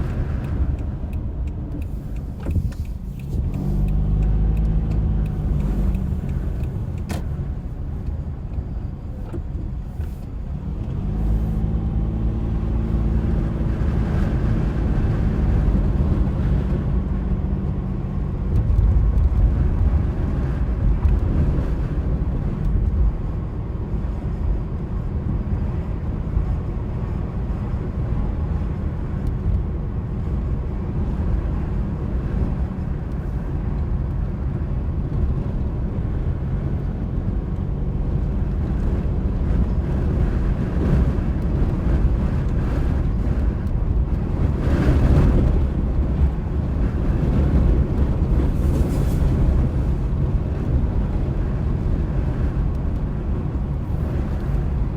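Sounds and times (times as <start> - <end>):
road and wind noise in car: 0.0 - 54.9.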